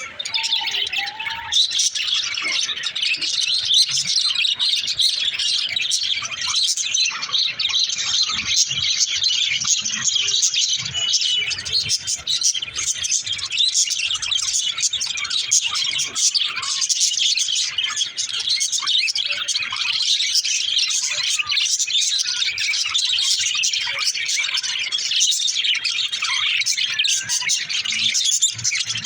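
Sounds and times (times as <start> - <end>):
budgerigars chattering and chirping: 0.0 - 29.0.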